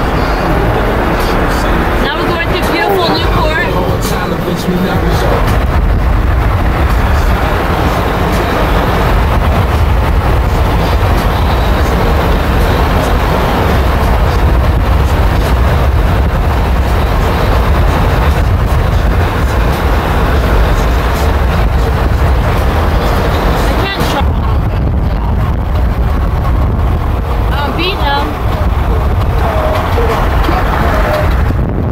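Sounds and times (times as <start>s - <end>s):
car road and engine noise: 0.0s - 31.9s.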